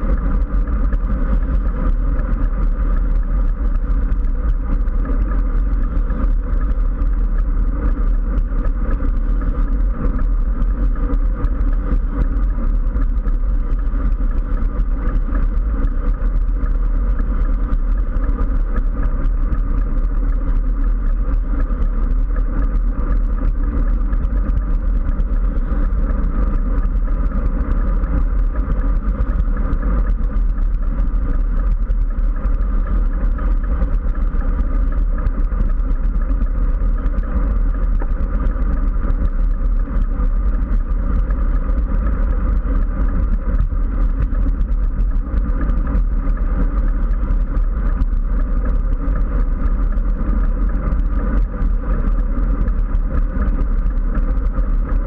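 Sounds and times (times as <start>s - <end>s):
low road rumble: 0.0s - 55.0s.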